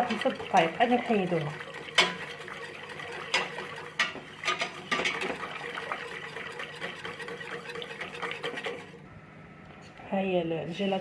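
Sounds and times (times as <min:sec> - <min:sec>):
liquid sloshing: 0:00.0 - 0:09.0
spoon stirring liquid in saucepan: 0:00.0 - 0:09.0.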